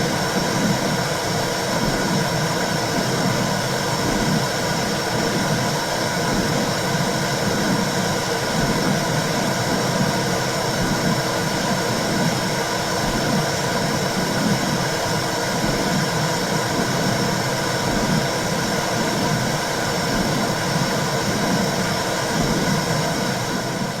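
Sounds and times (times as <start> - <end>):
rhythmic low pulsing whoosh: 0.0 - 24.0.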